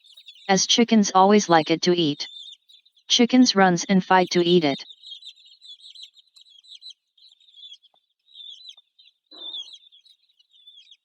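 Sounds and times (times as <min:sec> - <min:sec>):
chicks scuffling: 0:00.0 - 0:01.6, 0:02.2 - 0:11.0
chicks peeping: 0:00.0 - 0:11.0.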